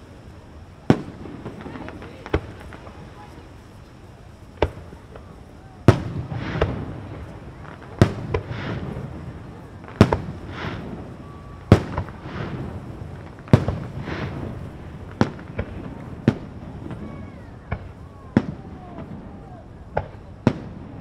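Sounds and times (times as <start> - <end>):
fireworks bursting with sharp bangs: 0.0 - 21.0
low rumble and hiss: 0.0 - 21.0.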